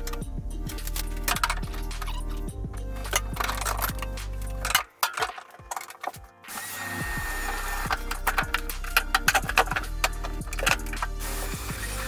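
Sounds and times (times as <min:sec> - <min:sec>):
background music with beat and bass: 0:00.0 - 0:12.0.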